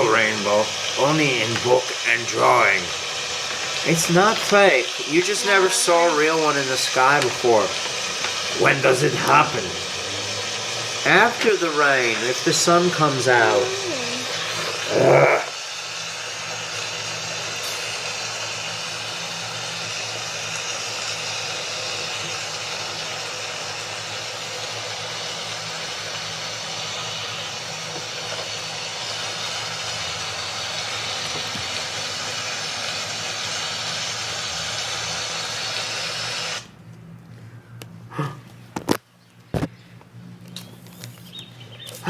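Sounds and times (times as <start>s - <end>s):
heavy rain hissing: 0.0s - 36.7s.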